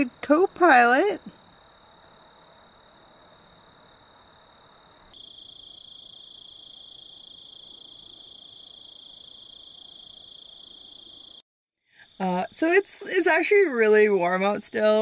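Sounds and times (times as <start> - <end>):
crickets chirping: 0.0 - 11.4, 12.0 - 15.0.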